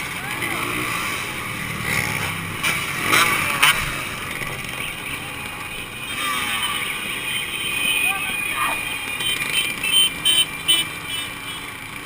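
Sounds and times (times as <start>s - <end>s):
two-stroke motorcycle engines revving: 0.0s - 12.0s.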